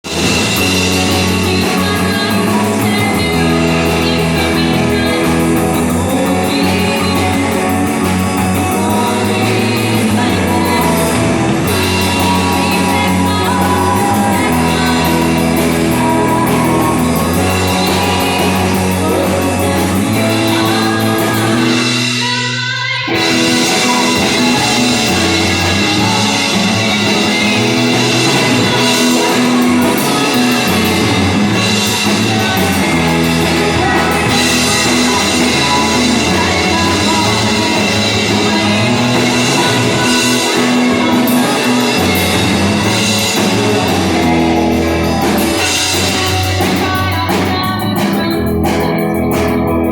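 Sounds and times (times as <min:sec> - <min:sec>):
drums: 0:00.0 - 0:49.9
guitar: 0:00.0 - 0:49.9
person singing: 0:00.0 - 0:49.9.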